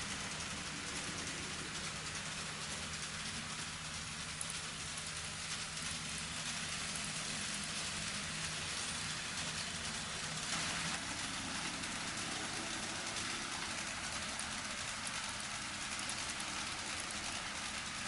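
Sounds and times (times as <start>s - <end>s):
low motor hum: 0.0s - 18.0s
model train wheels clattering: 0.0s - 18.0s.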